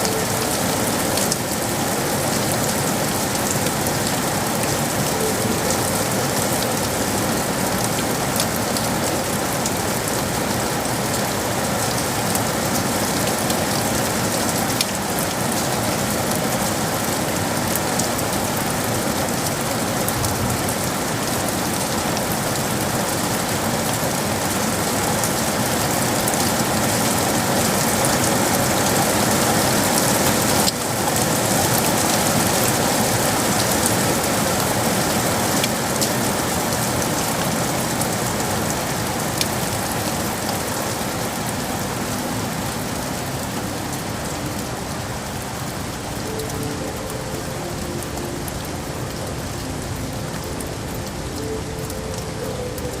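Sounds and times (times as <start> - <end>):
dense rain hiss: 0.0 - 53.0.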